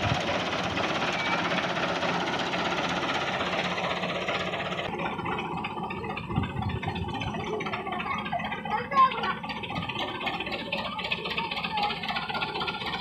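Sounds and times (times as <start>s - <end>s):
tractor diesel engine knocking: 0.0s - 13.0s.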